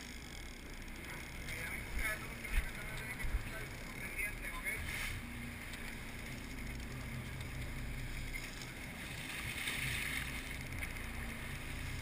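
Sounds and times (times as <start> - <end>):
boat engines humming: 0.0 - 12.0
water splashing along hull: 0.0 - 12.0.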